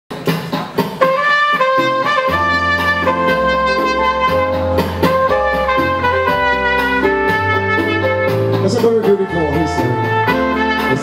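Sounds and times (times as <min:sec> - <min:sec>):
low instrumental accompaniment: 0:00.2 - 0:11.0
trumpet playing slow melody: 0:01.0 - 0:11.0.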